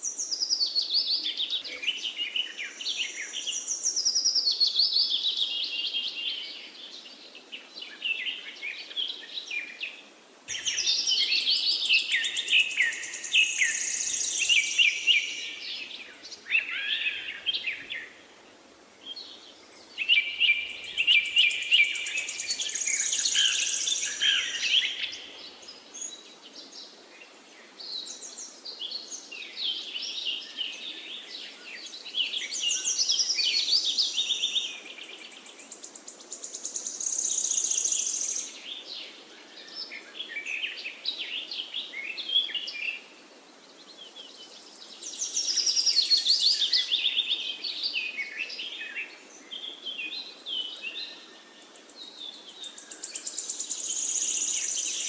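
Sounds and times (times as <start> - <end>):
songbirds chirping and trilling: 0.0 - 55.0
steady background hiss: 0.0 - 55.0.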